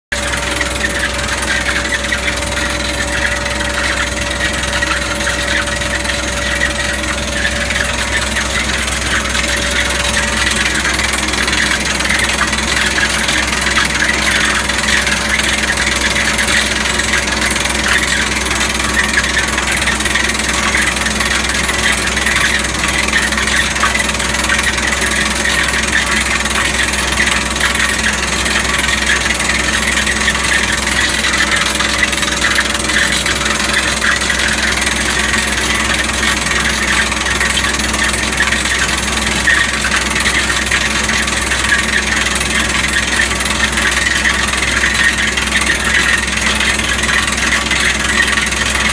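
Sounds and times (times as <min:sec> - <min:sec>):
rig engine running: 0:00.1 - 0:48.9
steady hum: 0:00.1 - 0:48.9.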